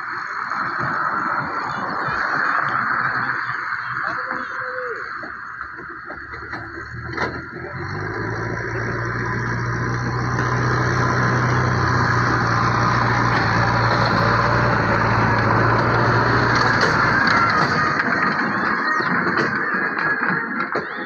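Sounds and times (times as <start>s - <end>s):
vehicle engine running: 0.0s - 20.8s.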